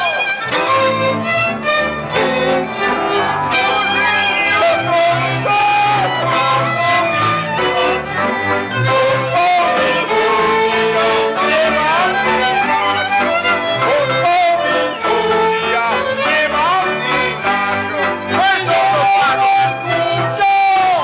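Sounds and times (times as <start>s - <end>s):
folk band with fiddles: 0.0s - 21.0s.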